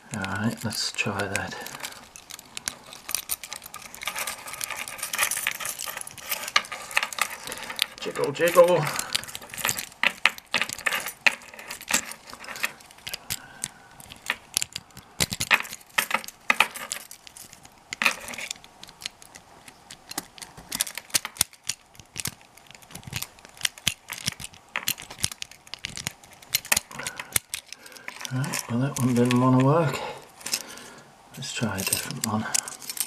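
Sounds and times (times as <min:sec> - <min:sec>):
key clicking in a lock: 0:00.1 - 0:29.8
keys jangling on a key ring: 0:00.3 - 0:30.8, 0:31.6 - 0:33.0.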